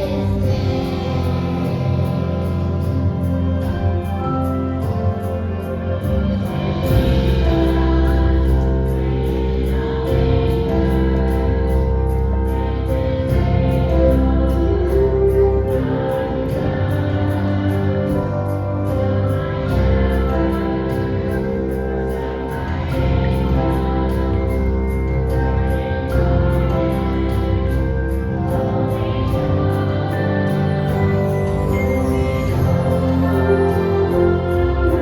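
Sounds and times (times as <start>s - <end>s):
choir singing: 0.0s - 35.0s
instrumental accompaniment with bass: 0.0s - 35.0s.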